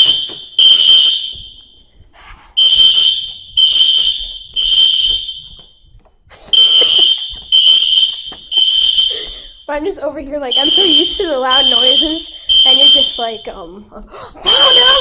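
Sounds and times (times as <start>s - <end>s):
fire alarm beeping: 0.0s - 13.6s, 14.4s - 15.0s.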